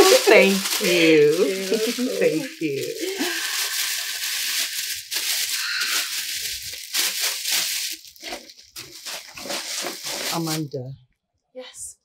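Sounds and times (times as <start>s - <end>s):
plastic wrapping crinkling: 0.0s - 10.8s.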